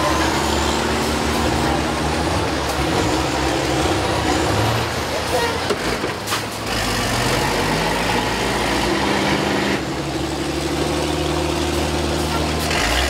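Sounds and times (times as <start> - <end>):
bus engines droning under load: 0.0 - 13.0.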